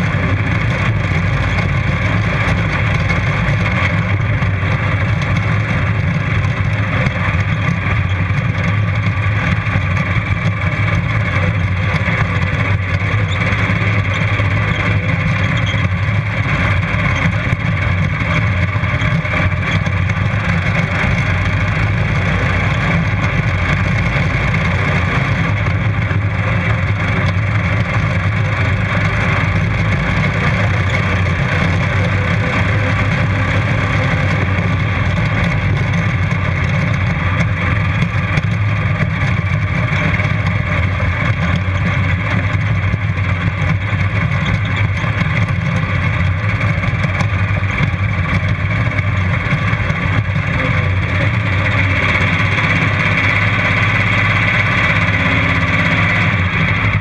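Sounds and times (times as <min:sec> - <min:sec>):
lawn mower engine running hard: 0:00.0 - 0:57.0.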